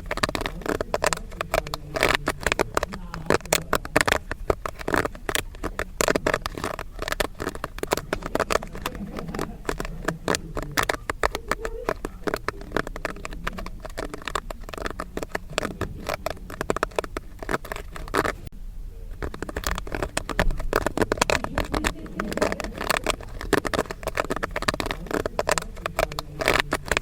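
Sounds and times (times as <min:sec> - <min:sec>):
popcorn kernels popping: 0:00.0 - 0:27.0.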